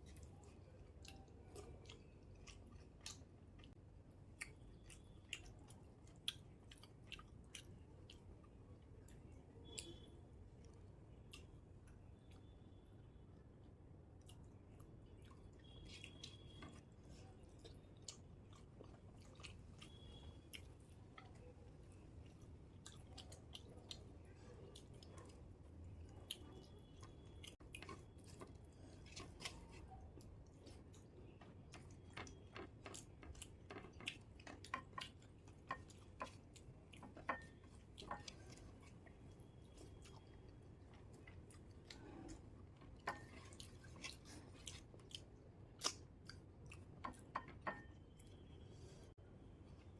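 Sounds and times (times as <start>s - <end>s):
low room hum: 0.0s - 49.9s
soft chewing: 0.0s - 49.9s.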